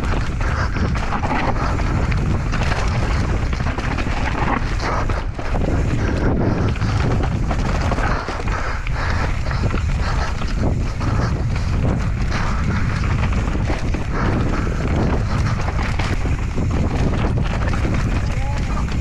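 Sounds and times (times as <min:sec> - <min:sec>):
bike knocks and rattles: 0:00.0 - 0:19.0
tyres rumbling on dirt: 0:00.0 - 0:19.0
wind buffeting microphone: 0:00.0 - 0:19.0.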